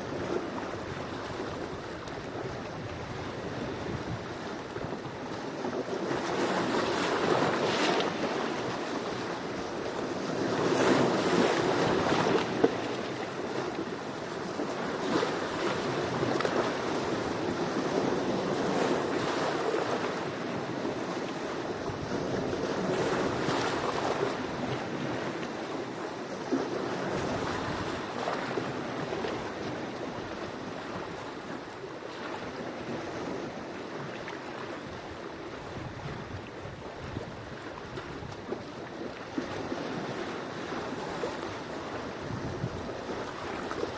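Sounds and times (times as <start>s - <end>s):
wind noise on microphone: 0.0s - 31.3s, 32.2s - 43.9s
sea waves washing ashore: 0.0s - 43.9s.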